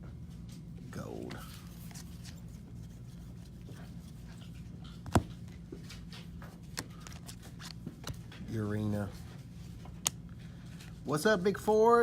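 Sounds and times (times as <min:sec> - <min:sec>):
steady low hum: 0:00.0 - 0:12.0
trading cards handled: 0:00.5 - 0:11.0.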